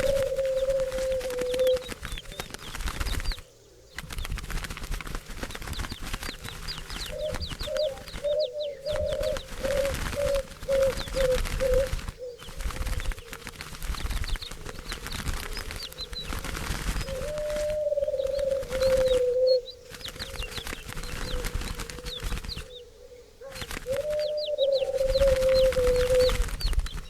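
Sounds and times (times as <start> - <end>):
doves cooing: 0.0 - 27.0
small birds chirping: 0.0 - 27.0
wings fluttering: 0.0 - 27.0.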